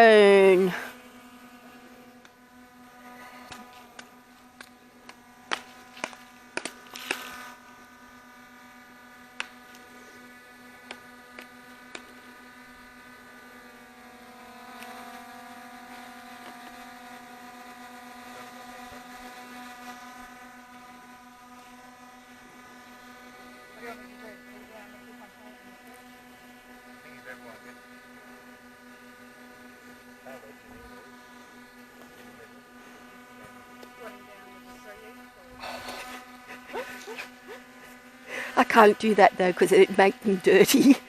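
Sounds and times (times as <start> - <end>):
drone propellers buzzing: 0.0 - 41.0.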